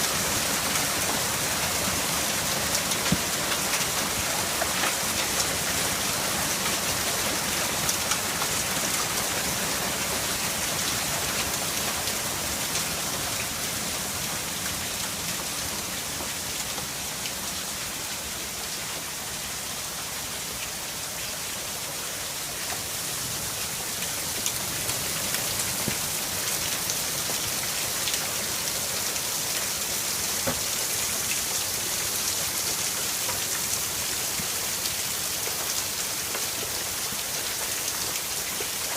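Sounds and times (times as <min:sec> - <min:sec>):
hail and rain hissing: 0:00.0 - 0:19.0, 0:22.4 - 0:38.9.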